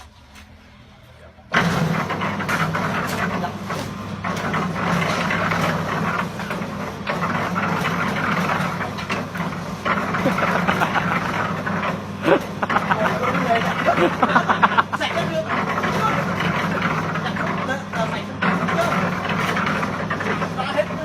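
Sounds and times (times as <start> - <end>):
dense grinding clatter: 0.0 - 21.0
machine engine hum: 0.0 - 21.0.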